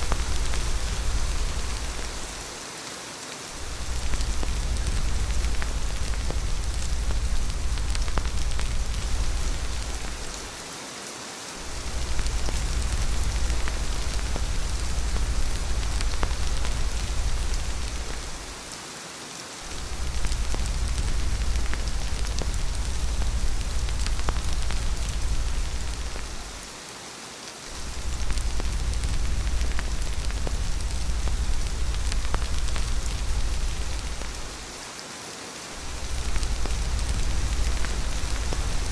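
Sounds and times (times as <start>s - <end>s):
deep low rumble: 0.0s - 2.4s, 3.6s - 10.6s, 11.6s - 18.6s, 19.7s - 26.6s, 27.8s - 34.7s, 35.8s - 38.9s
rain hiss: 0.0s - 38.9s.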